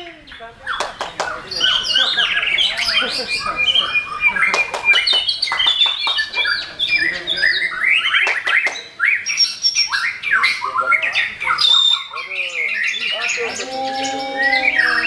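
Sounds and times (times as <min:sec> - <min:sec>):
songbirds chorus: 0:00.0 - 0:15.0.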